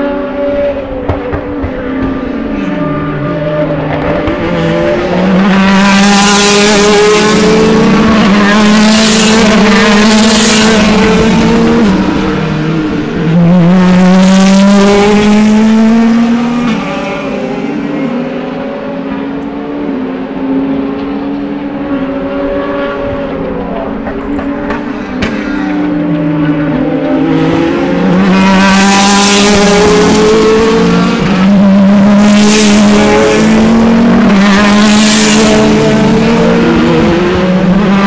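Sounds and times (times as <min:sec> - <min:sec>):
racing car engines at full throttle: 0:00.0 - 0:38.0.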